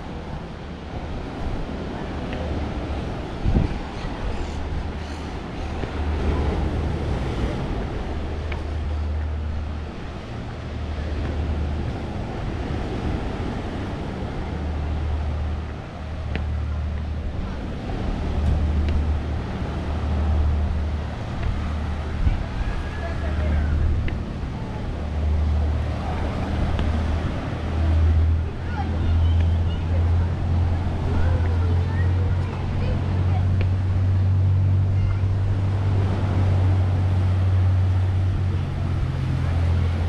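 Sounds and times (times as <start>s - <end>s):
outdoor noise: 0.0s - 40.0s
wind buffeting microphone: 0.0s - 40.0s.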